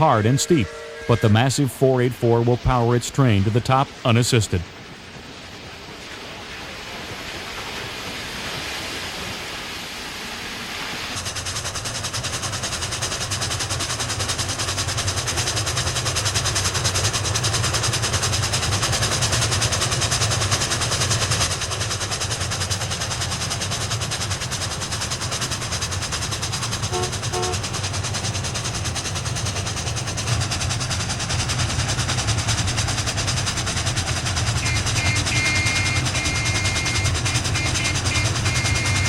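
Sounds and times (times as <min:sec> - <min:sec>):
steady rushing noise: 0:00.0 - 0:39.0
steam locomotive exhaust beats: 0:00.0 - 0:39.0.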